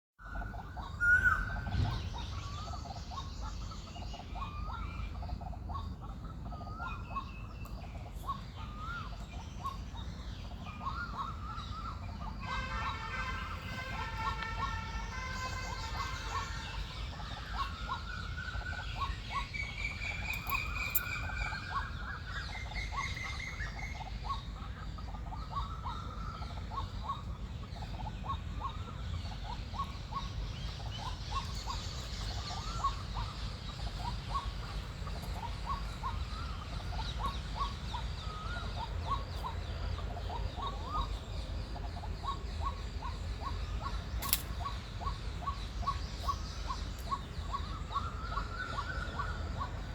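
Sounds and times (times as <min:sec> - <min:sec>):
birds whistling: 0:00.2 - 0:49.9.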